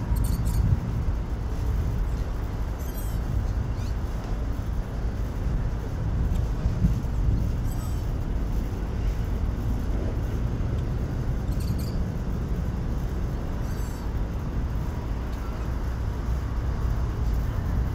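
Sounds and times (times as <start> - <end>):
jet engines rumbling: 0.0 - 17.9.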